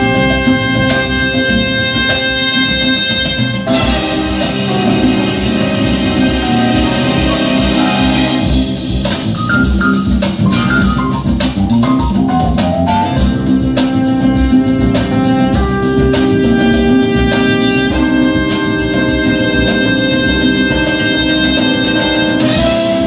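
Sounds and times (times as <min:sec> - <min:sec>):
organ keyboard music with beat: 0:00.0 - 0:23.0.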